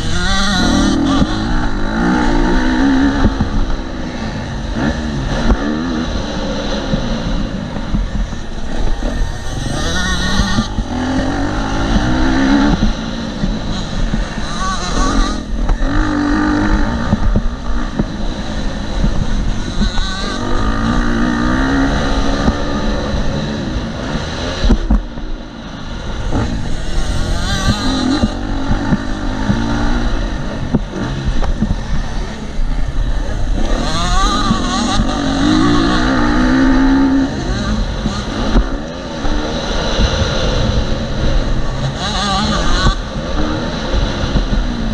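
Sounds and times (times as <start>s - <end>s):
dirt bike engine revving: 0.0s - 44.9s
wind rushing over microphone: 0.0s - 44.9s.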